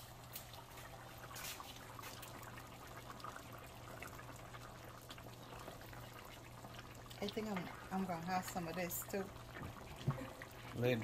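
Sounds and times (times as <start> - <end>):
liquid trickling and bubbling: 0.0 - 11.0.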